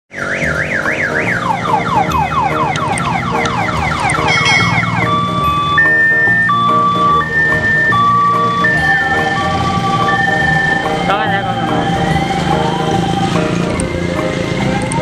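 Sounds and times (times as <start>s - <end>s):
electronic multi-tone siren: 0.1s - 15.0s.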